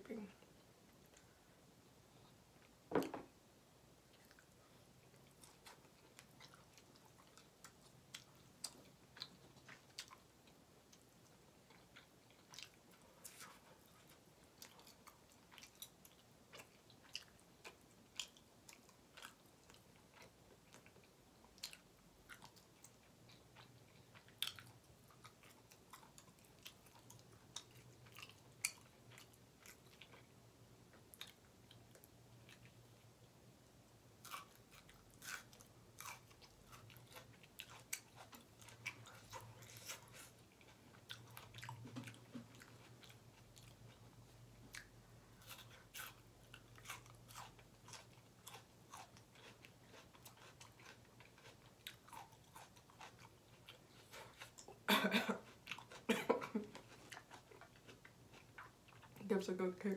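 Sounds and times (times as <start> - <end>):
person chewing with mouth clicks: 4.1 - 33.0, 34.2 - 59.2.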